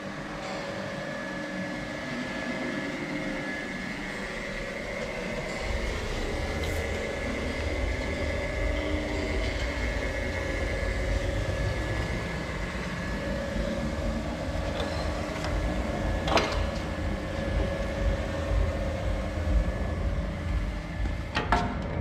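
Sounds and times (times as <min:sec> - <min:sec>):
seaming machine whine and rumble: 0:00.0 - 0:22.0.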